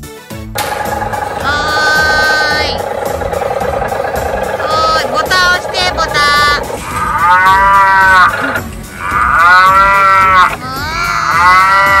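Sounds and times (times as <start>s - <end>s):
cow mooing: 1.4s - 12.0s.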